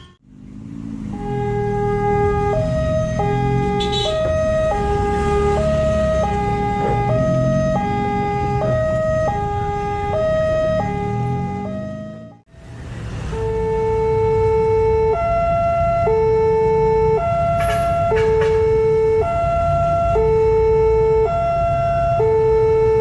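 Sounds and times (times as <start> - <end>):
low rumble of engines: 0.0 - 23.0
two-tone crossing alarm: 1.0 - 12.4, 13.3 - 23.0.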